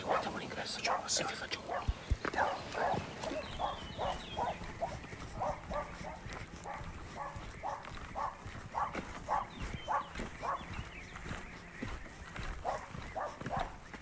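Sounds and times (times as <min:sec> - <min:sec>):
dog barking: 0:00.0 - 0:10.9, 0:12.4 - 0:14.0.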